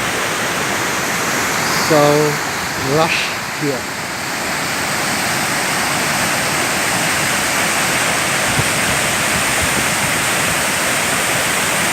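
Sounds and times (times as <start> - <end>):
waterfall crashing: 0.0 - 11.9.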